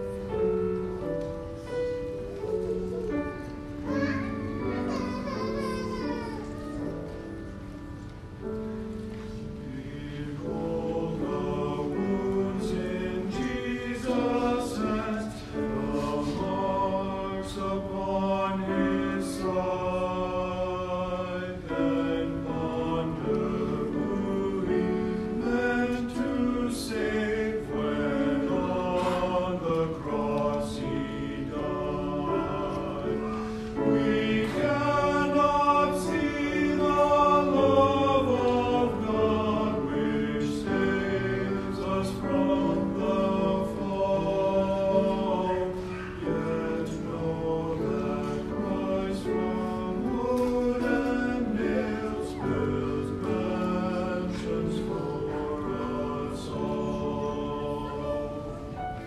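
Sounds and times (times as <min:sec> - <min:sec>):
family singing a slow hymn: 0:00.0 - 0:59.0.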